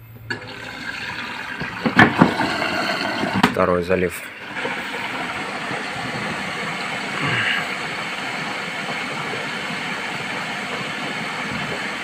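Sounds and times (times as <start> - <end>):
water rushing into washing machine: 0.3 - 12.0.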